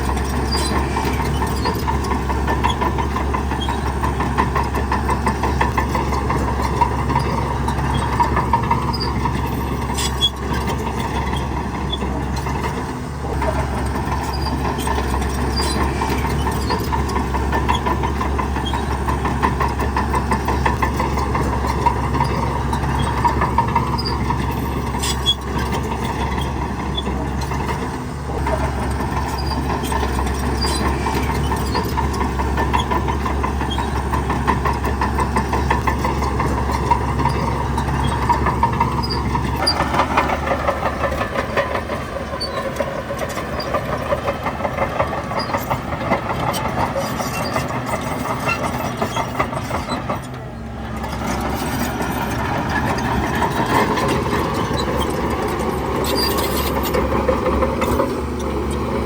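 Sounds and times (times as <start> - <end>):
diesel machinery rattling: 0.0 - 59.0.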